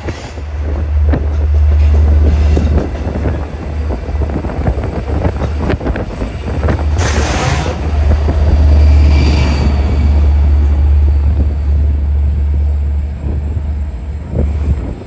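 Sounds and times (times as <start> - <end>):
low train rumble: 0.0 - 15.0
train wheels clicking over rail joints: 0.0 - 15.0.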